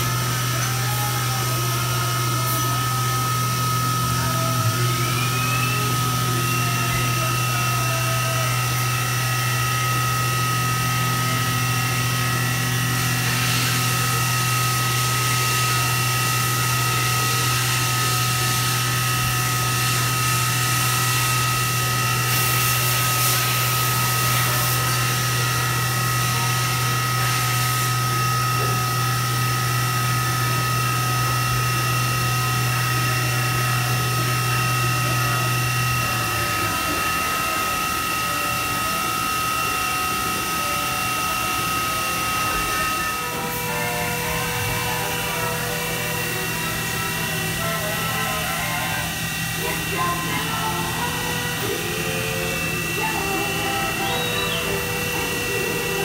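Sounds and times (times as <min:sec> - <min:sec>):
milling machine hum and whine: 0:00.0 - 0:56.0.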